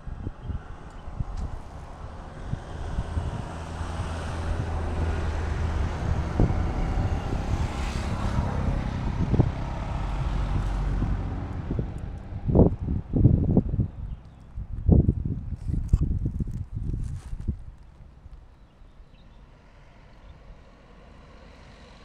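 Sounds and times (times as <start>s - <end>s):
traffic passing: 0.0s - 22.0s.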